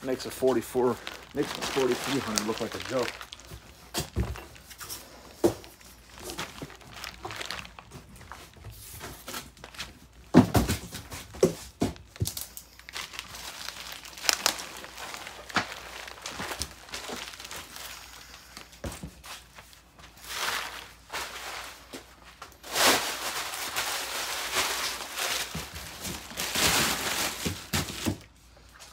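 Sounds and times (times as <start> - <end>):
bubble wrap crinkling: 0.0 - 28.9.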